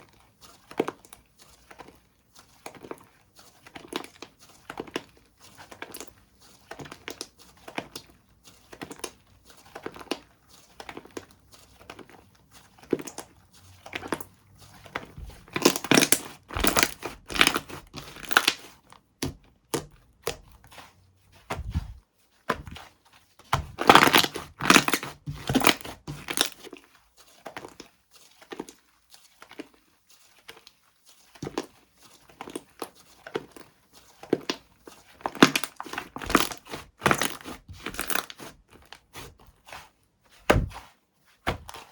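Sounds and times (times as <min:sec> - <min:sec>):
slime squished and crackling: 0:00.0 - 0:41.9.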